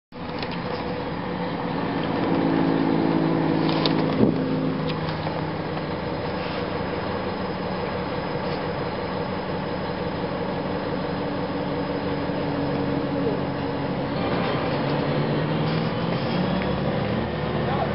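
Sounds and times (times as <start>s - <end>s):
bus diesel engine drone: 0.1s - 17.9s.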